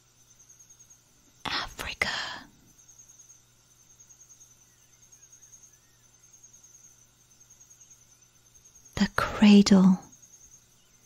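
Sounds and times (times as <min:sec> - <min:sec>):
crickets trilling: 0:00.0 - 0:11.0
faint chirping calls: 0:00.0 - 0:11.0.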